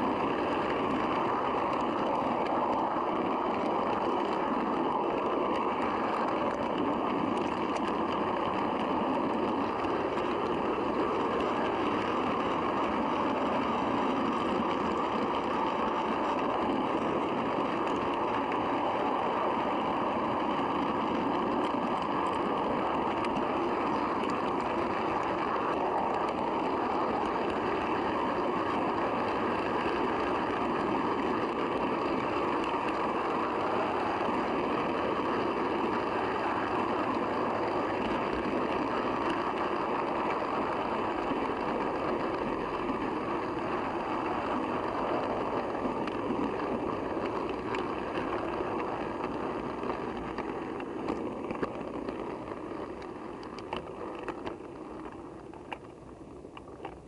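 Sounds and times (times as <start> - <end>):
model train wheels rumbling on track: 0.0 - 57.0.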